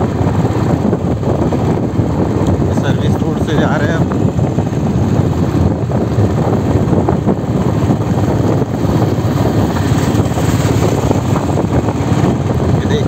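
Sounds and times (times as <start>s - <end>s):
motorcycle running: 0.0s - 13.0s
wind buffeting microphone: 0.0s - 13.0s.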